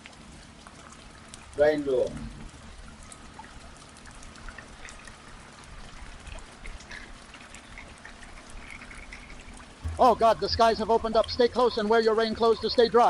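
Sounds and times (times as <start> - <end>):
heavy rain rumble: 0.0 - 13.0
raindrops ticking: 0.0 - 13.0.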